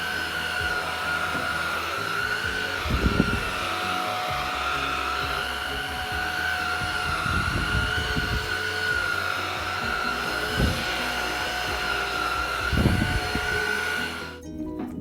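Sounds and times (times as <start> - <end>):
stick vacuum whining: 0.0 - 14.4.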